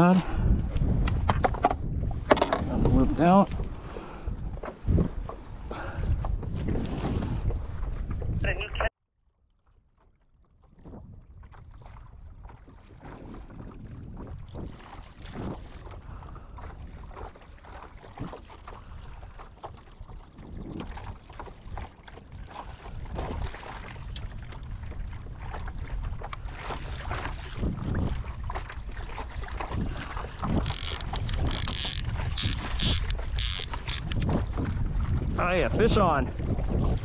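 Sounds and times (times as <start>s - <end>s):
wind buffeting microphone: 0.0s - 8.9s, 10.6s - 37.0s
water splashing against kayak hull: 0.0s - 37.0s.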